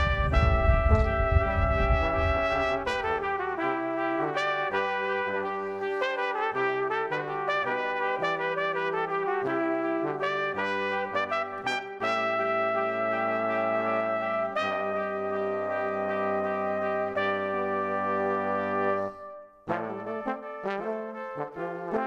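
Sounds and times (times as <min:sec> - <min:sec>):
brass melody over bass line: 0:00.0 - 0:22.0.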